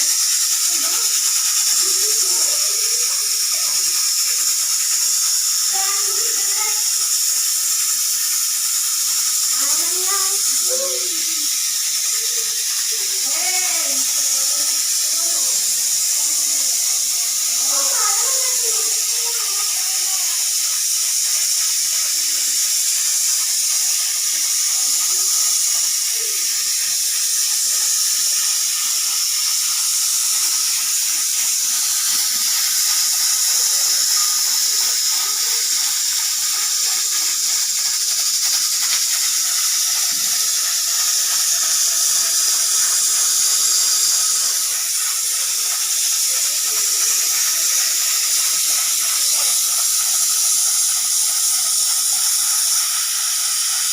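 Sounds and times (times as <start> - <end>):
pressure cooker hissing steam: 0.0 - 53.9.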